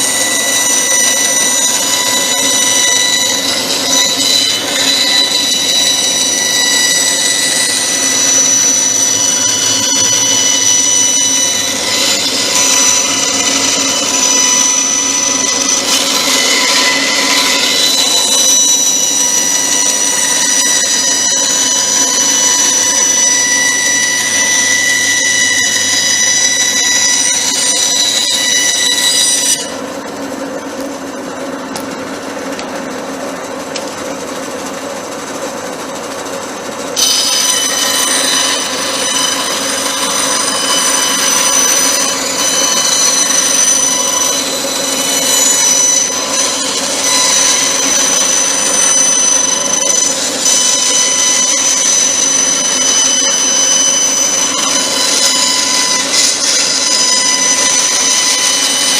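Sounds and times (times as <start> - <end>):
power tool whining: 0.0 - 58.9.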